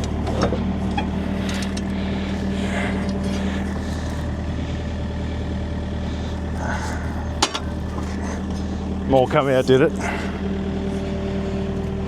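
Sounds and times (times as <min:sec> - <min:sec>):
excavator diesel engine idling: 0:00.0 - 0:12.0
higher hum: 0:00.0 - 0:12.0.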